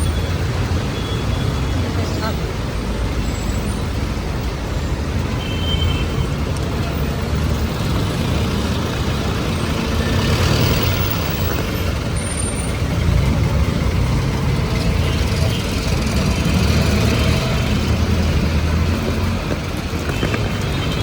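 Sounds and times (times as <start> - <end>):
vehicle engines passing: 0.0 - 21.0.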